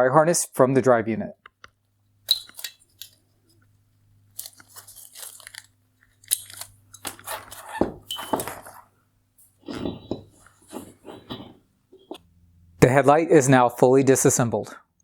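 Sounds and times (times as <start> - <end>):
faint low hum: 2.9 - 15.0.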